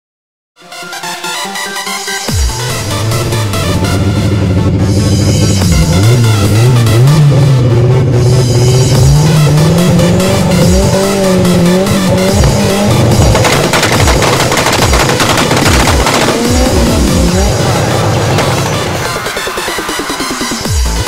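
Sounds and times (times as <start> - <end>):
exhaust bangs and pops: 2.3 - 21.0
car engine revving hard: 2.4 - 20.0.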